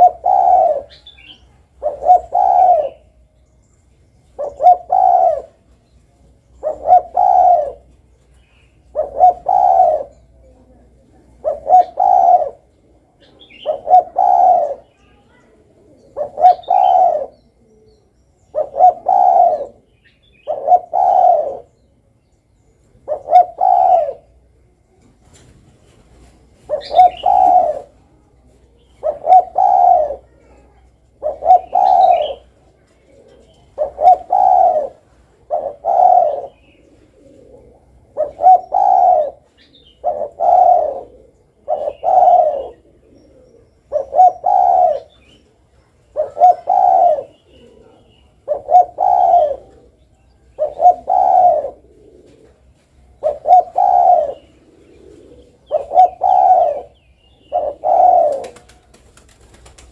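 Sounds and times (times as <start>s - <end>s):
dove cooing: 0.0s - 3.3s, 4.3s - 21.8s, 22.9s - 25.5s, 26.2s - 59.9s.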